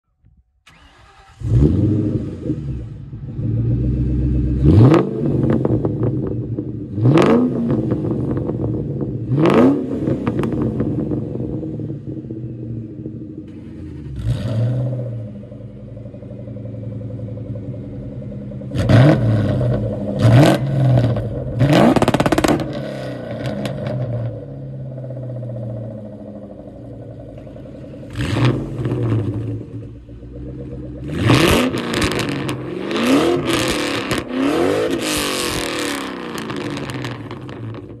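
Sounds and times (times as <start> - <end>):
car engines idling and revving: 0.7 - 38.0.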